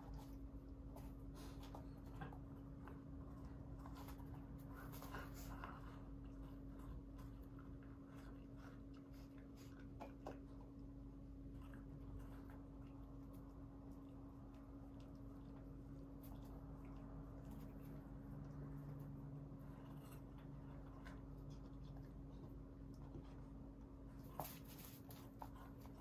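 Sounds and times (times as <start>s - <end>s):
low electrical hum: 0.0s - 26.0s
puppy rustling and scratching: 0.0s - 26.0s.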